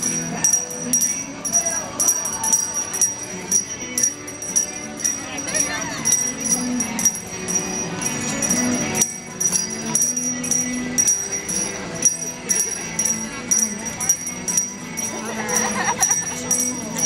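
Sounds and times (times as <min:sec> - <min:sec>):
hand bell ringing: 0:00.0 - 0:17.0
music with held low notes: 0:00.0 - 0:17.0.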